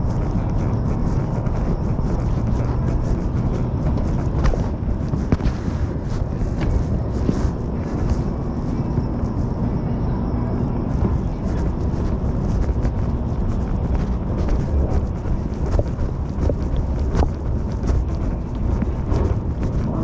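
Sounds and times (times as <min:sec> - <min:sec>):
train rumble and rushing: 0:00.0 - 0:20.0.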